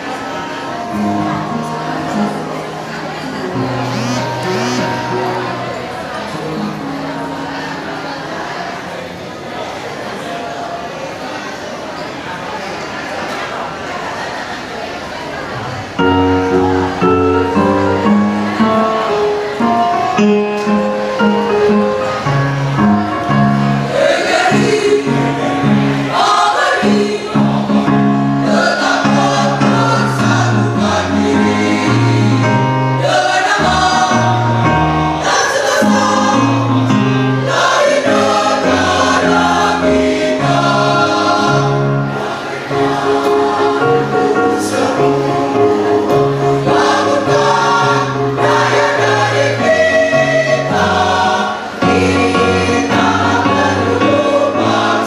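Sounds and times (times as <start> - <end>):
mixed choir singing: 0.0 - 11.6, 13.1 - 55.0.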